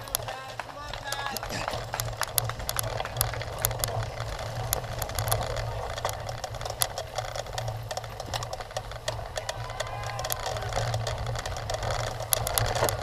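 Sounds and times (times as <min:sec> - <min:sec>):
bike rattling and clicking: 0:00.0 - 0:13.0.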